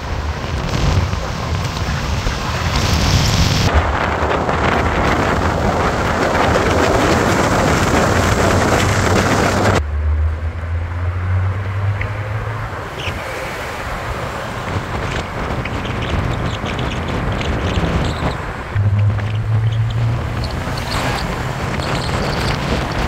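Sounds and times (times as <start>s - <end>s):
low rumble: 0.0s - 23.0s
wind rumble on microphone: 0.0s - 23.0s.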